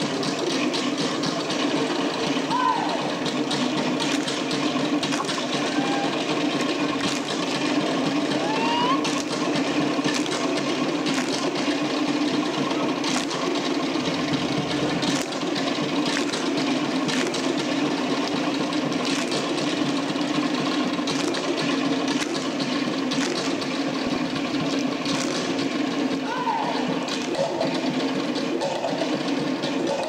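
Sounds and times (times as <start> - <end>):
fast slit drum rolls: 0.0 - 30.0.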